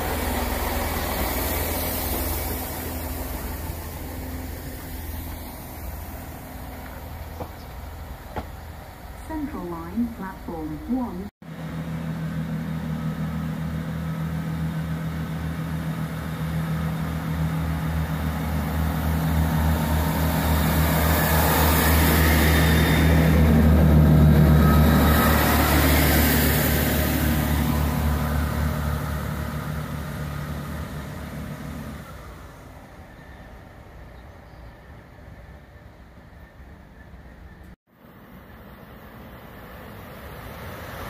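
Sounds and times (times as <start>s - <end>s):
wheels hissing on rail: 0.0s - 9.3s, 11.6s - 41.0s
diesel train engine hum: 0.0s - 41.0s.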